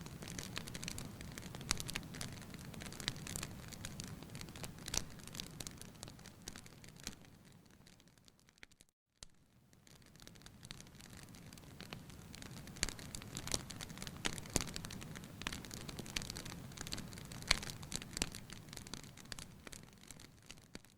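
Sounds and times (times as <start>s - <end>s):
bonfire crackling and popping: 0.0s - 20.9s.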